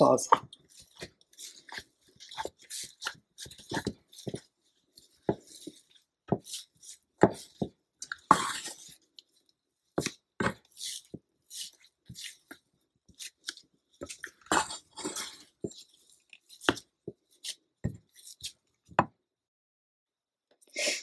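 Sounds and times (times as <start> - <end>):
spatula scraping and knocking pan: 0.0 - 9.0, 9.9 - 19.1.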